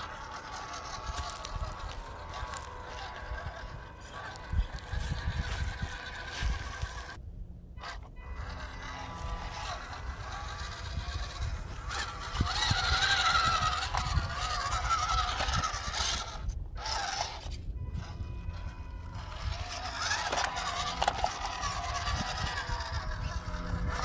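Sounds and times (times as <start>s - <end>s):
electric motor and gears whining: 0.0s - 24.0s.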